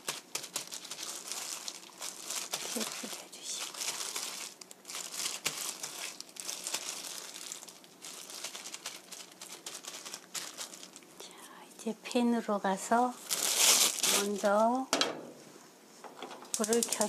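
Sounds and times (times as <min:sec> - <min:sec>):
plastic glove crinkling: 0:00.0 - 0:11.3, 0:12.5 - 0:17.0.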